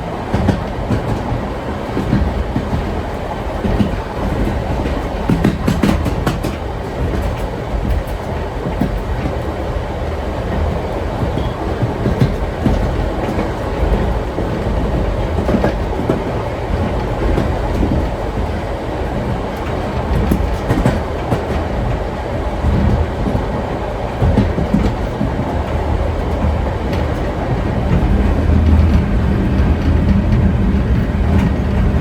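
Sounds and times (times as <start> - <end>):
railway carriage rumble: 0.0 - 32.0
wheels clacking over rails: 0.0 - 32.0.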